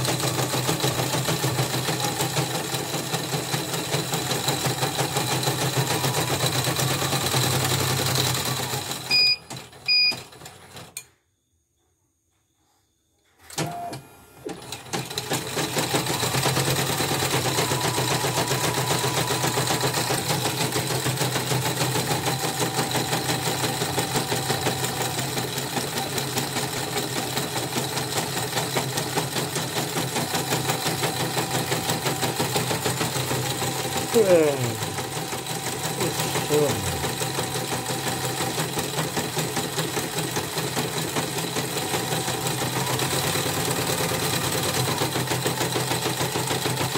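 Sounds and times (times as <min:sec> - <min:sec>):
embroidery machine stitching: 0:00.0 - 0:10.9, 0:13.5 - 0:46.9.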